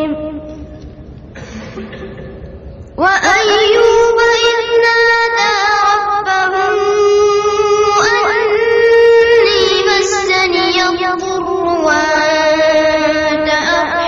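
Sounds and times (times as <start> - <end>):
boy chanting melodically: 0.0 - 0.8, 3.0 - 14.0.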